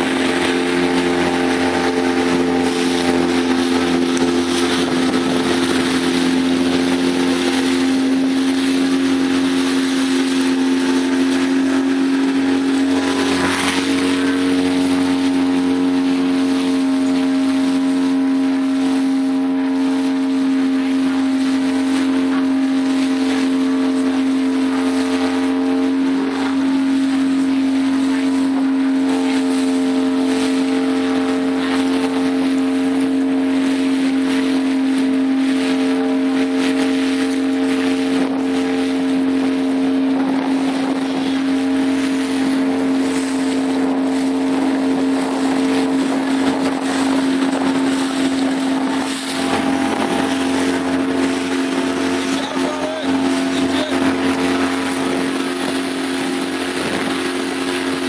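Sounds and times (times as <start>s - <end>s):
motorboat engine running: 0.0s - 58.0s
wind and water noise: 0.0s - 58.0s.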